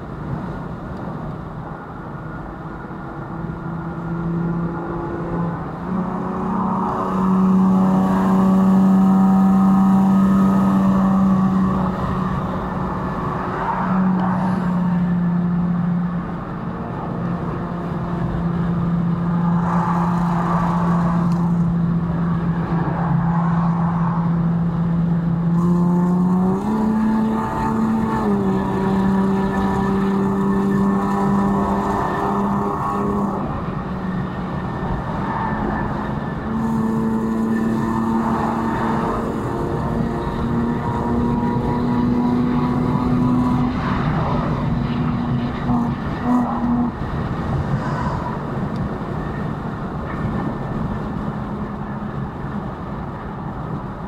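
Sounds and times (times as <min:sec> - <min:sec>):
car engine and exhaust drone: 0:00.0 - 0:54.0
road and tyre noise: 0:00.0 - 0:54.0.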